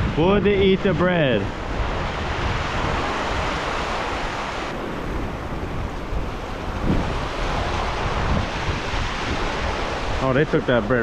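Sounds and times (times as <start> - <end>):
ocean surf over rocks: 0.0 - 11.0
wind buffeting microphone: 0.0 - 11.0.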